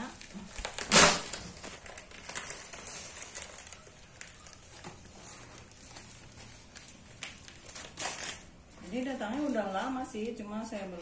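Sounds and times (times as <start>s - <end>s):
scissors cutting plastic packaging: 0.0s - 10.3s
bubble wrap crinkling: 0.0s - 11.0s.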